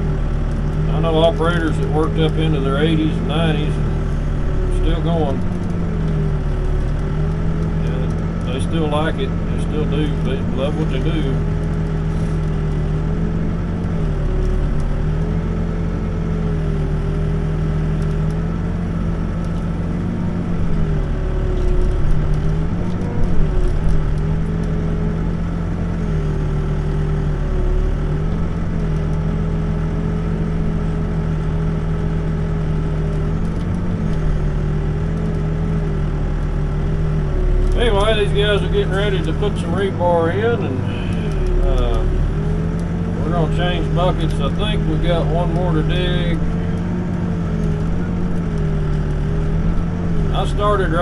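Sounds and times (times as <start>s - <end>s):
backhoe diesel engine running: 0.0s - 51.0s.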